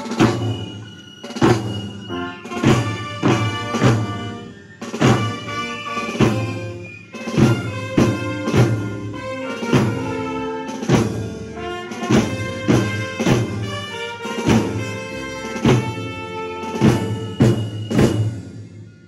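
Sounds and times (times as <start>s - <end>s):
brass sustained notes: 0.0s - 18.0s
steady drum beat: 0.0s - 18.8s.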